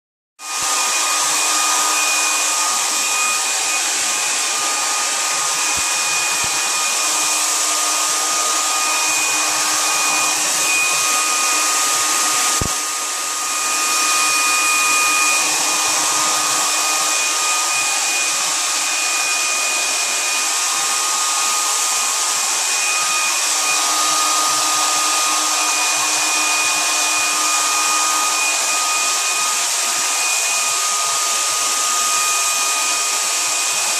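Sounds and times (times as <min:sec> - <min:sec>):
hair dryer running: 0:00.4 - 0:33.9.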